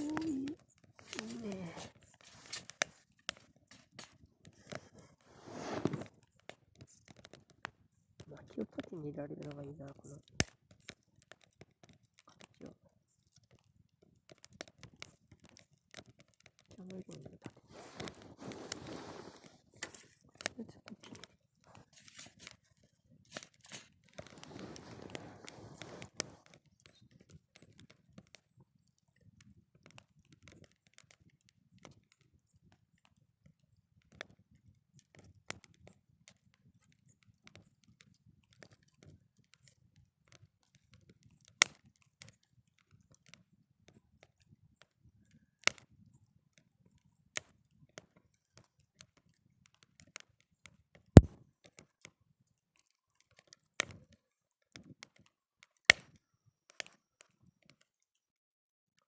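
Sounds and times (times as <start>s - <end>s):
fire popping: 0.0s - 46.2s, 46.8s - 52.1s, 52.8s - 57.4s
campfire crackling: 0.0s - 52.2s, 52.8s - 57.4s.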